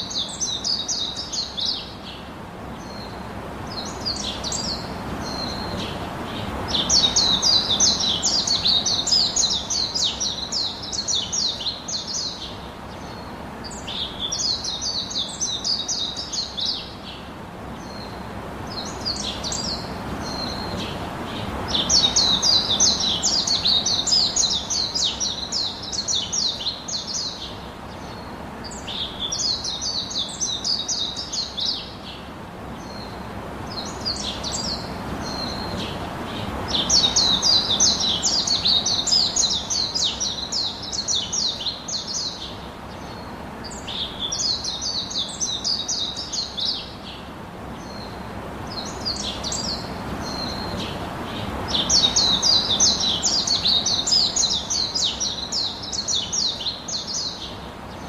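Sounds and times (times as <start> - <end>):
faint background hiss: 0.0 - 58.0
small birds chirping: 0.0 - 58.0.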